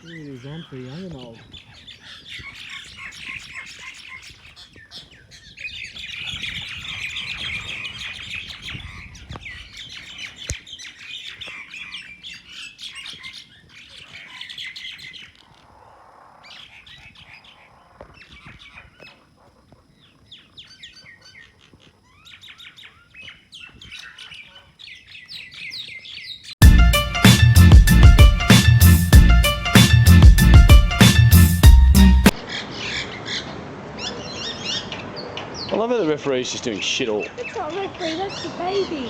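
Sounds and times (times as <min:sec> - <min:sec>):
flock of small birds chirping: 0:00.0 - 0:26.6, 0:32.3 - 0:39.0.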